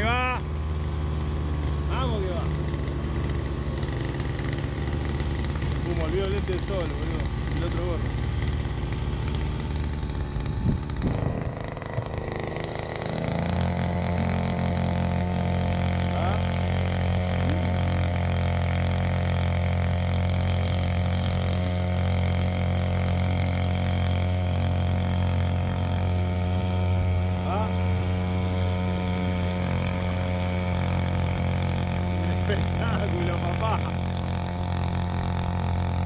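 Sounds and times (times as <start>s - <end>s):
small outboard motor running: 0.0s - 36.0s.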